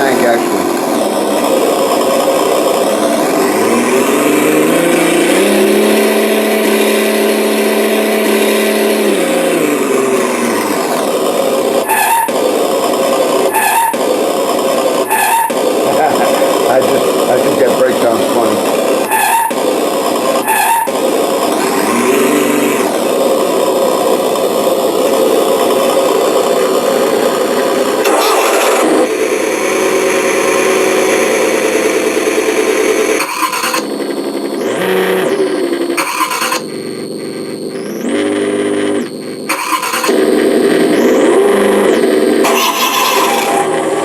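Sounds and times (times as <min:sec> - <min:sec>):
synthesized engine revving: 0:00.0 - 0:44.0.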